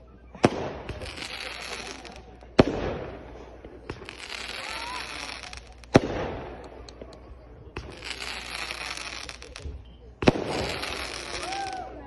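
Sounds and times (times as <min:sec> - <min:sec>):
firework bang: 0:00.4 - 0:07.1, 0:07.8 - 0:11.7
firework rockets hissing: 0:00.4 - 0:07.1, 0:07.7 - 0:12.0.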